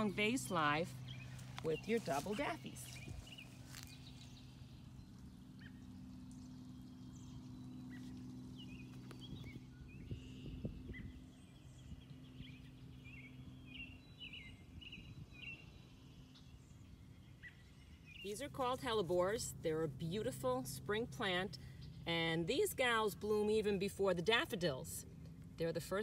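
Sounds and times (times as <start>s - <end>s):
faint low drone: 0.0s - 22.6s
birds chirping: 0.0s - 23.8s.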